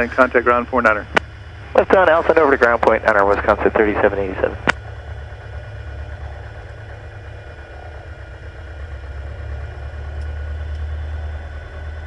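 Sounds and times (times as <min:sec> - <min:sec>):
piston engine idling in cabin: 0:00.0 - 0:12.0.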